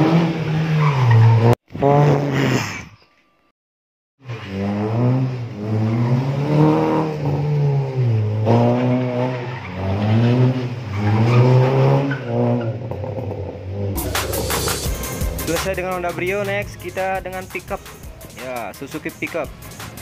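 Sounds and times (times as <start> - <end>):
car engine revving: 0.0 - 2.4, 4.2 - 20.0.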